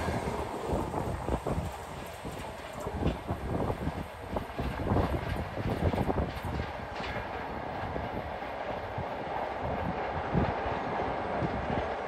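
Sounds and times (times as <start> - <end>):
distant passenger train running: 0.0 - 12.0.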